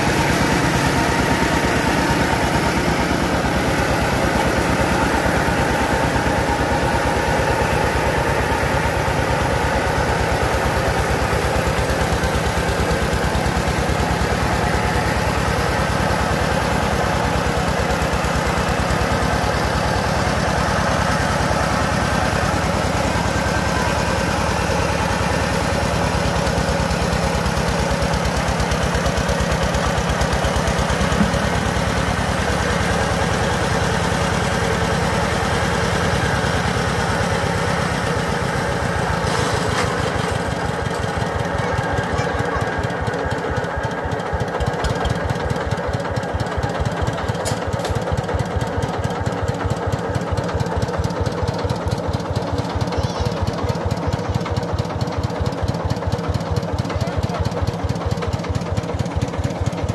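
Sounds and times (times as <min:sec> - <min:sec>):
engine running under load: 0:00.0 - 0:59.9
whir of milling machinery: 0:00.0 - 0:59.9.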